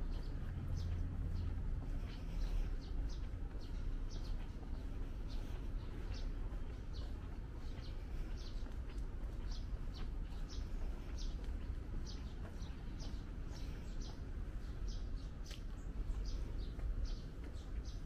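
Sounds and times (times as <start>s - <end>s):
low steady rumble: 0.0s - 18.0s
small birds chirping: 0.0s - 18.0s.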